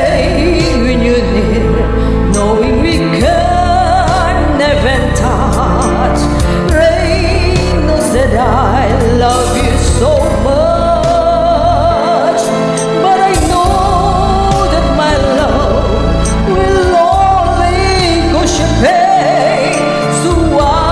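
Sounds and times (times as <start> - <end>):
karaoke backing track: 0.0 - 20.9.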